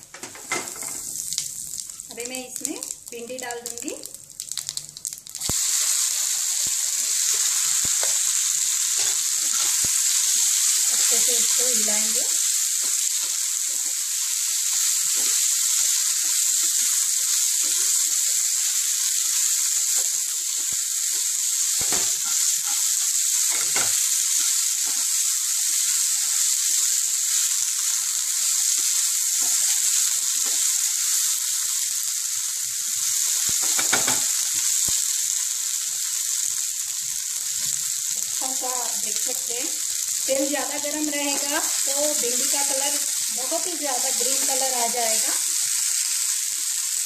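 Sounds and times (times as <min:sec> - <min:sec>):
okra sizzling in hot oil: 0:00.0 - 0:47.0.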